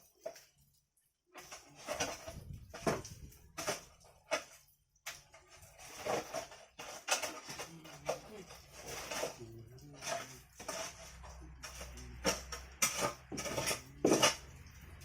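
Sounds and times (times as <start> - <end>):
hard objects knocking and clattering: 1.4 - 15.0.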